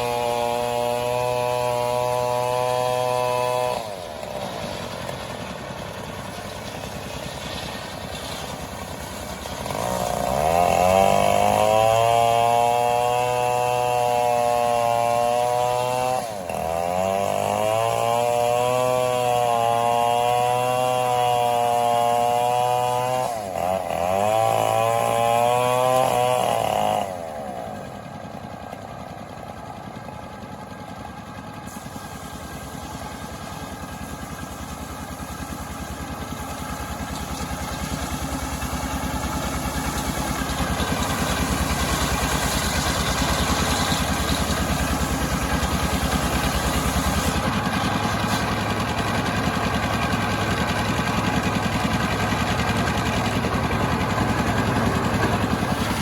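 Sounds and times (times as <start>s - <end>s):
chainsaw engine revving: 0.0s - 28.6s, 31.6s - 56.0s.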